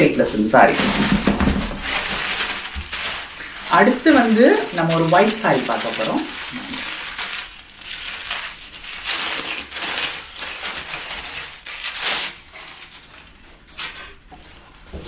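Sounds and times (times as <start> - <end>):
plastic packaging crinkling: 0.6 - 15.0.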